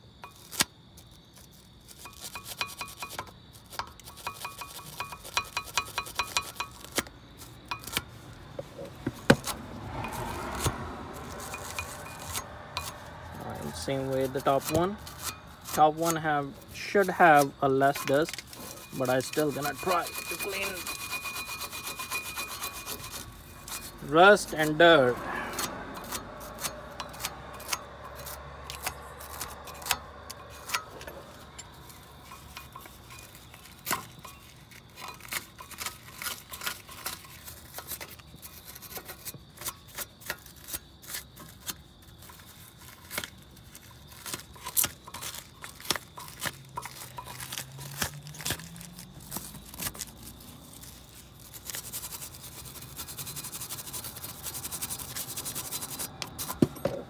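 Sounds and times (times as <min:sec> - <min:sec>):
wire brush scrubbing metal: 0:01.5 - 0:08.1, 0:08.7 - 0:57.0.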